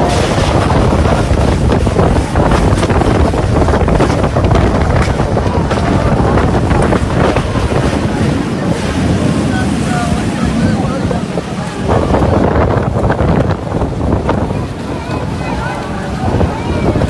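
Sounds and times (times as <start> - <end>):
storm wind against microphone: 0.0 - 17.0.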